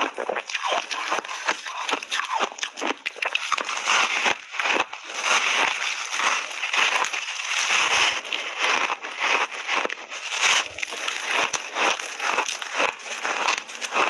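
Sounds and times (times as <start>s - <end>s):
person chewing ice crunching: 0.0s - 14.0s.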